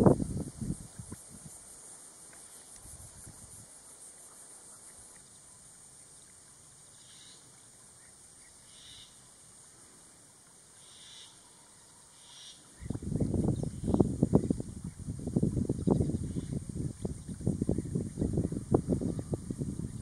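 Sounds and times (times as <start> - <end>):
insect chirring: 0.0 - 9.6, 10.7 - 20.0.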